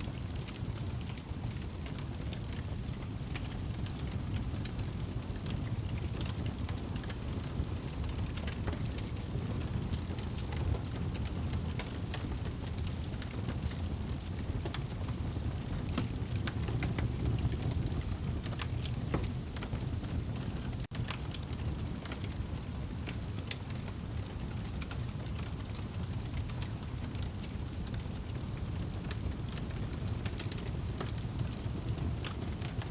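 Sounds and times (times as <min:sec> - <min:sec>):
fire crackling and popping: 0:00.0 - 0:32.9
rain rumbling: 0:00.0 - 0:32.9.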